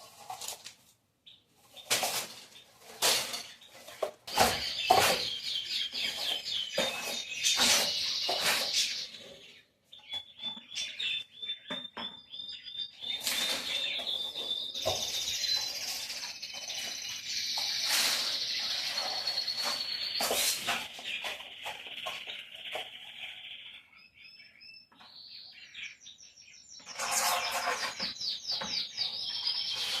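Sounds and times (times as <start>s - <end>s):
small birds chirping: 1.2s - 30.0s.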